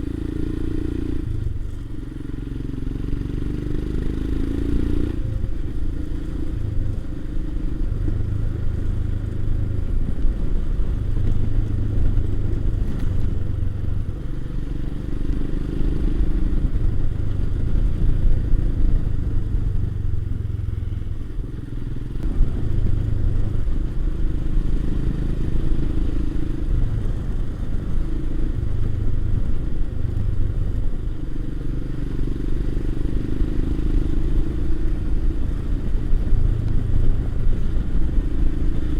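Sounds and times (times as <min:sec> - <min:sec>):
low wind rumble: 0:00.0 - 0:38.9
motorcycle engine running: 0:00.0 - 0:38.9.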